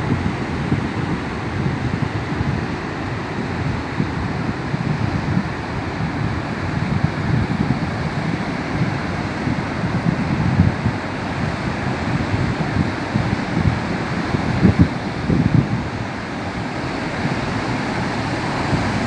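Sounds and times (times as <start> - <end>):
rough sea surf churning: 0.0 - 19.0
wind rumbling on microphone: 0.0 - 19.0.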